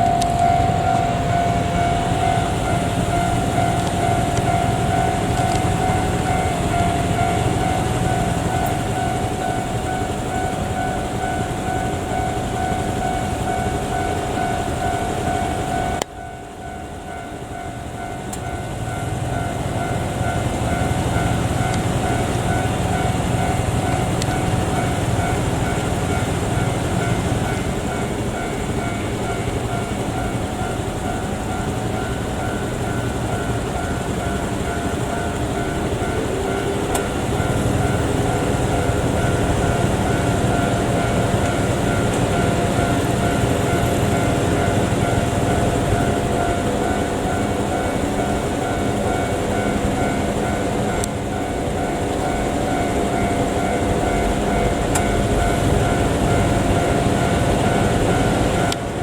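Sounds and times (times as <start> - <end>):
crossing alarm ringing: 0.0 - 59.0
electric train rumble and rail noise: 0.0 - 59.0.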